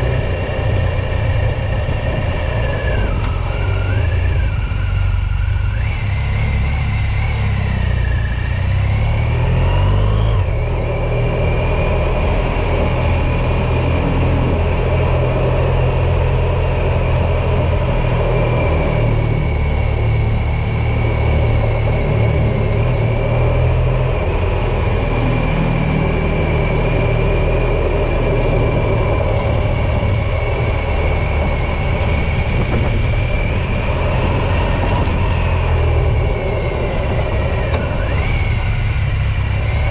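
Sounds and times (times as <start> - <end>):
vehicle engine rumble and whine: 0.0 - 39.9.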